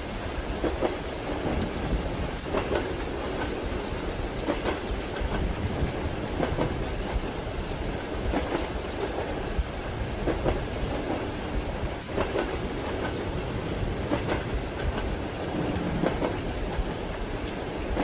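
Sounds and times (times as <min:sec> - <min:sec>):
moving train rumble: 0:00.0 - 0:18.0
rain hissing: 0:00.0 - 0:18.0
train wheels clacking over rail joints: 0:00.1 - 0:18.0.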